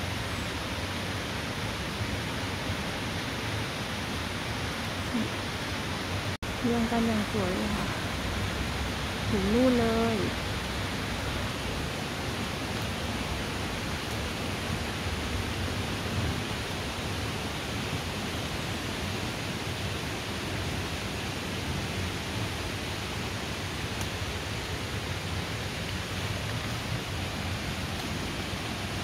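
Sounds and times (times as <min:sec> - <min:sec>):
rain on forest canopy: 0:00.0 - 0:29.0.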